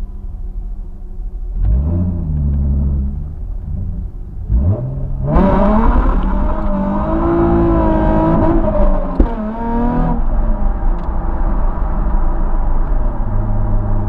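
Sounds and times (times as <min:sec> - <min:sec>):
car engine accelerating hard: 0:01.5 - 0:14.0
exhaust crack: 0:01.5 - 0:14.0.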